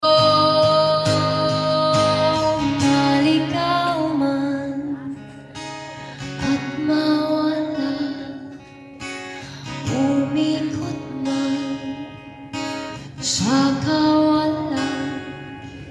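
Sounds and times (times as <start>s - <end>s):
person singing: 0.0s - 5.4s, 6.3s - 8.6s, 9.7s - 12.4s, 13.1s - 15.9s
strummed acoustic guitar: 0.0s - 15.9s.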